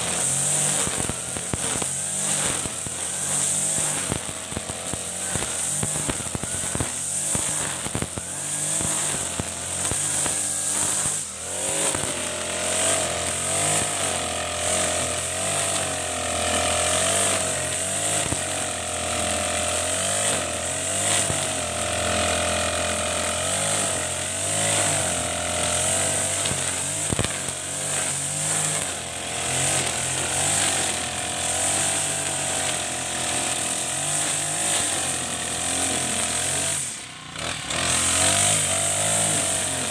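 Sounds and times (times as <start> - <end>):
brush cutter engine running: 0.0 - 39.9
nylon line cutting grass: 0.0 - 39.9.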